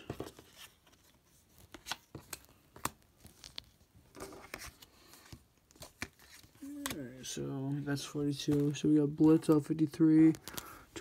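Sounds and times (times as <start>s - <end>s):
plastic sleeves rustling: 0.0s - 11.0s.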